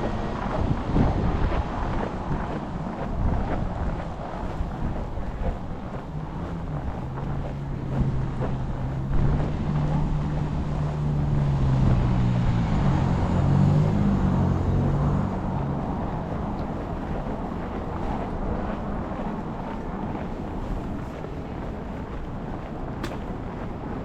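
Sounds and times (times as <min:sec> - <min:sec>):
large vehicle engine humming: 0:00.0 - 0:24.0
street traffic: 0:00.0 - 0:24.0
wind buffeting microphone: 0:00.0 - 0:24.0.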